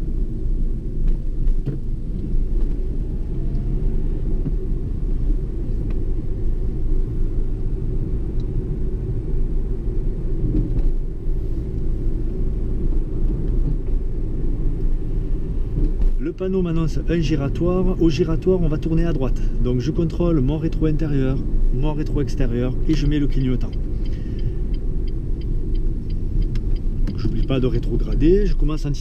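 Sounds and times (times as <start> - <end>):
car engine and road rumble: 0.0 - 29.0.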